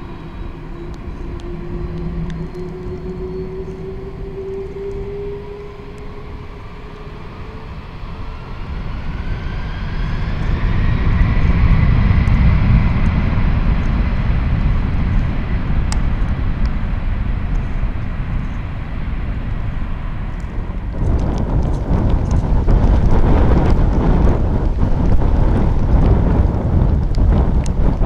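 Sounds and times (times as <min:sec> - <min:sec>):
jet engines spooling up: 0:00.0 - 0:28.0.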